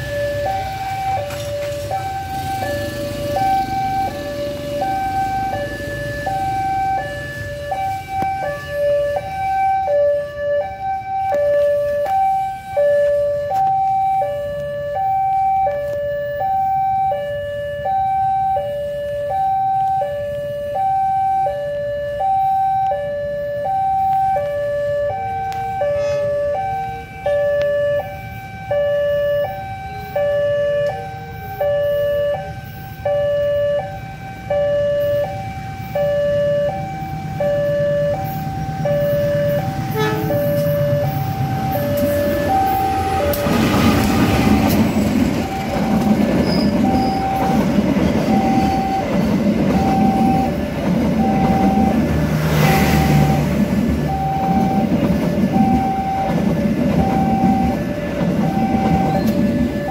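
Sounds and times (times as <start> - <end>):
fainter low-toned alarm: 0.0 - 59.9
level crossing two-tone alarm: 0.0 - 59.9
low rumble of train: 0.0 - 59.9.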